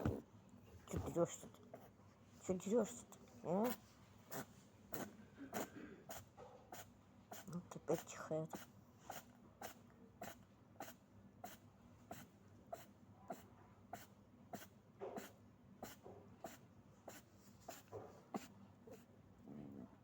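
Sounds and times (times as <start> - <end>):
rabbit sneezing snorts: 3.6 - 20.0.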